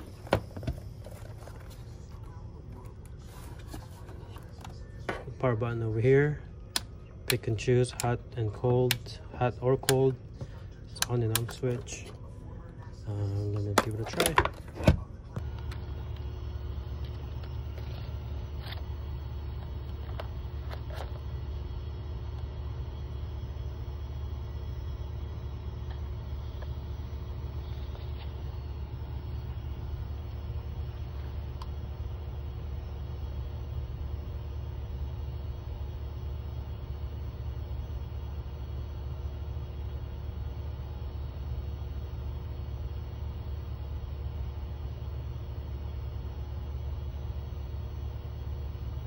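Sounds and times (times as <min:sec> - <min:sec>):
laminator motor humming: 0:00.0 - 0:49.0.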